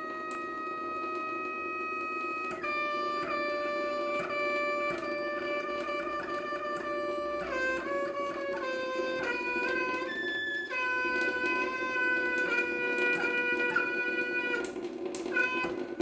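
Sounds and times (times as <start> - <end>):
running water: 0.0 - 16.0
water tap whistling: 0.0 - 16.0.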